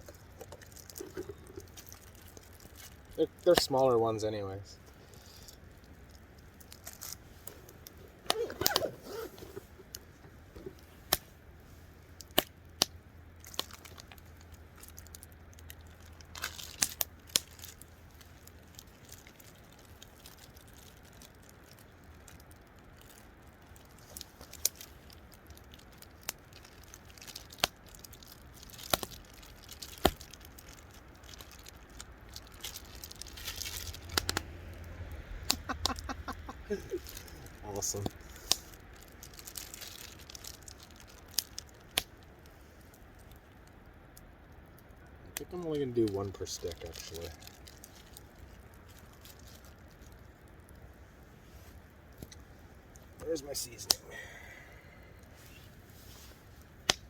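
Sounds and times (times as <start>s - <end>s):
hands handling meat and sticks: 0.0s - 3.8s, 4.9s - 50.9s.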